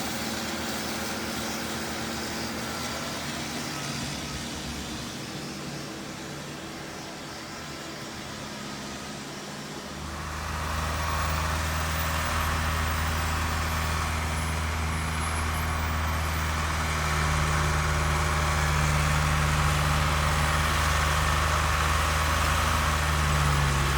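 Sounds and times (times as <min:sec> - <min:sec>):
snow blower engine running: 0:00.0 - 0:07.0, 0:08.1 - 0:23.9.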